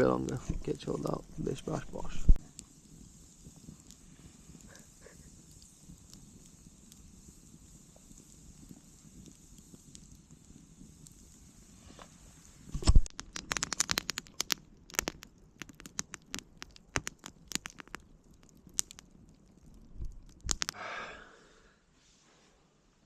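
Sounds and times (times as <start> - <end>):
campfire crackling and popping: 0.0 - 21.2.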